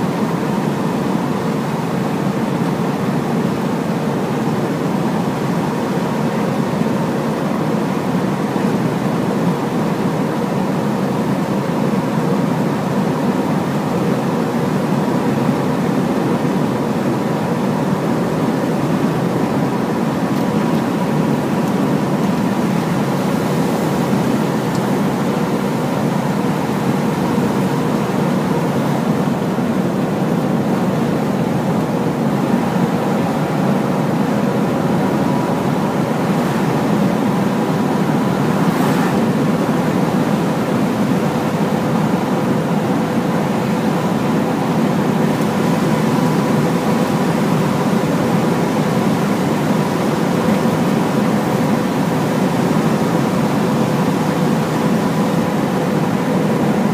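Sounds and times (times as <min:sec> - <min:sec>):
faint steady whine: 0:00.0 - 0:56.9
truck engine and road noise: 0:00.0 - 0:56.9.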